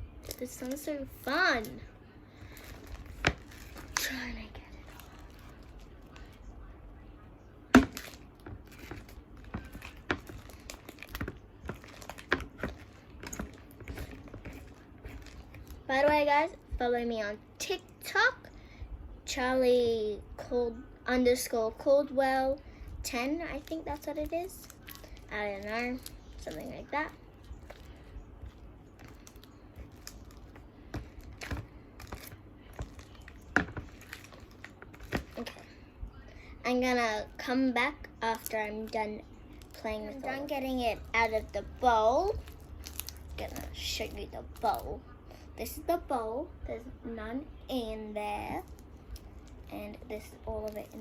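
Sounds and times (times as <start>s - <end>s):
slime kneaded by hand: 0.0s - 6.7s, 7.6s - 17.0s, 22.9s - 45.0s, 47.8s - 51.0s.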